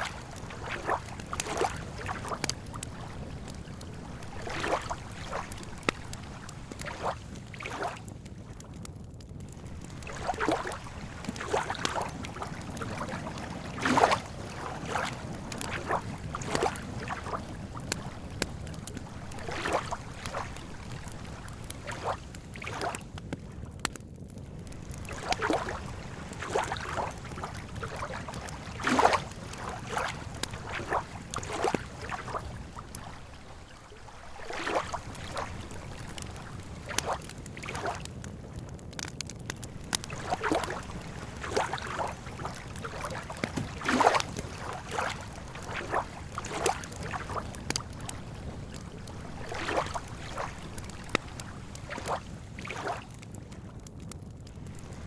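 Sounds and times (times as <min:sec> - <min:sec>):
waves lapping at shore: 0:00.0 - 0:08.2, 0:09.4 - 0:23.2, 0:24.5 - 0:53.6, 0:54.5 - 0:55.0.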